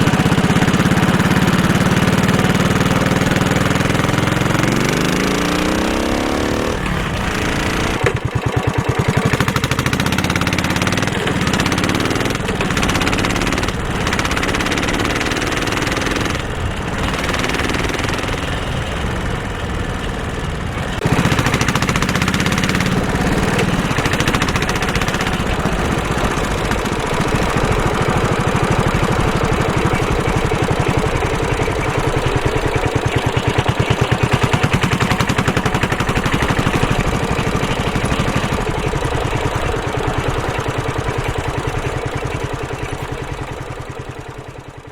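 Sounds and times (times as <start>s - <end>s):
motorcycle engine lugging: 0.0s - 44.9s.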